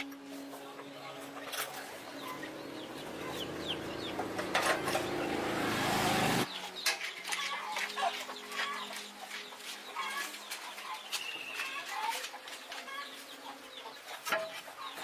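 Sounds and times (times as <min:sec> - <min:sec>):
chickens clucking: 0:00.0 - 0:15.0
small birds chirping: 0:00.5 - 0:15.0.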